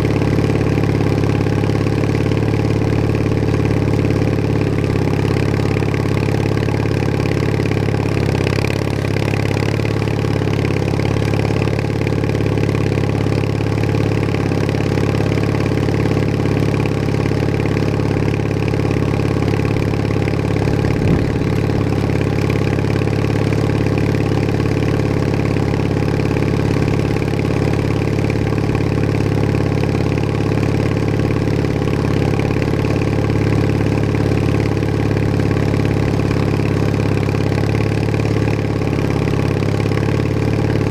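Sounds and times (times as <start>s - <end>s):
garden tractor engine running: 0.0s - 40.9s.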